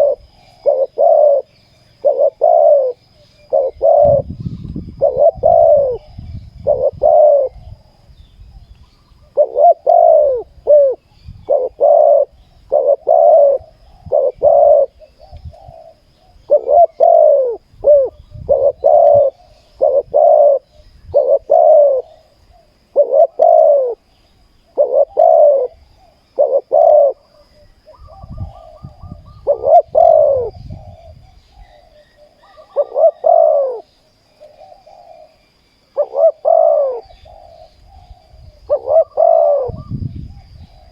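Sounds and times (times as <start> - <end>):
doves cooing: 0.0 - 8.1, 9.0 - 40.9.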